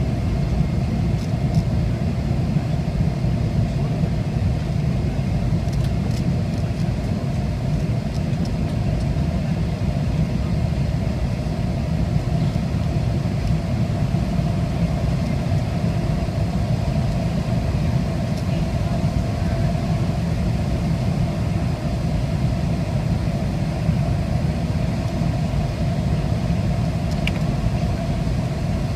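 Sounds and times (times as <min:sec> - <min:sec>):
airliner cabin rumble: 0:00.0 - 0:28.9
steady hum: 0:00.0 - 0:28.9.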